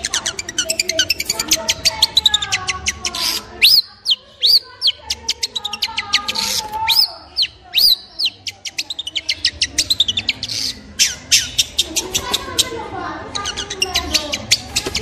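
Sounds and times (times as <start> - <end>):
bird singing: 0.0 - 15.0.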